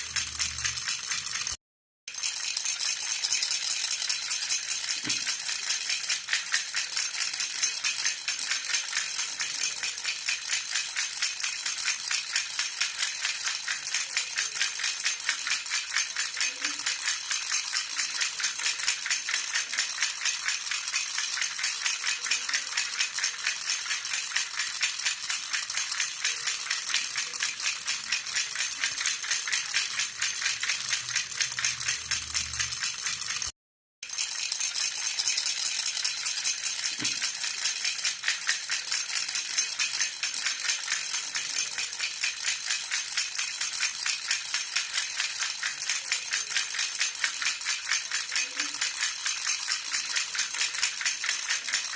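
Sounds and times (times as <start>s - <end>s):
baby rattle shaken: 0.0s - 51.9s.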